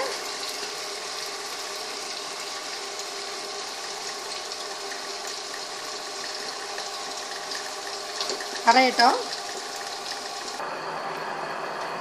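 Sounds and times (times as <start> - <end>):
wet grinder running: 0.0 - 12.0.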